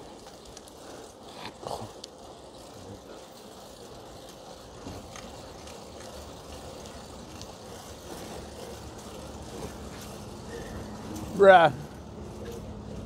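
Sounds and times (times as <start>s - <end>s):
bicycle chain and tyres on road: 0.0s - 13.0s.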